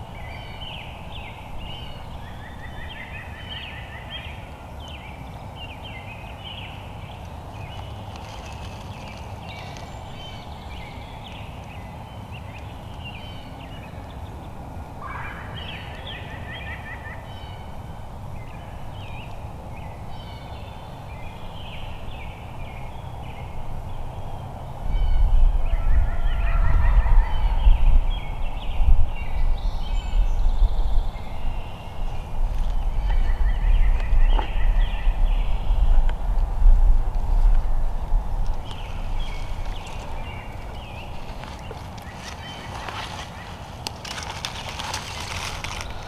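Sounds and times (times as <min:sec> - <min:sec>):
small birds chirping: 0:00.0 - 0:17.8, 0:18.4 - 0:36.5, 0:37.2 - 0:46.0.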